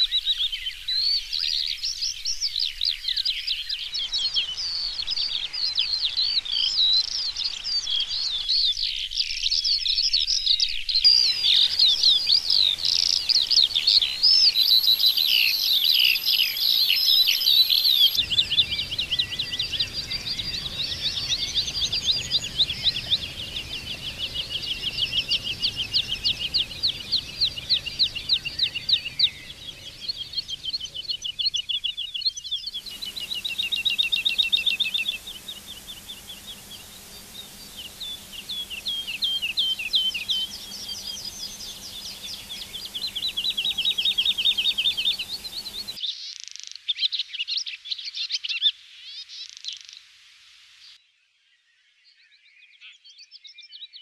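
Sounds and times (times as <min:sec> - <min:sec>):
swallow twittering: 0:00.0 - 0:46.0
songbirds trilling: 0:00.0 - 0:46.1.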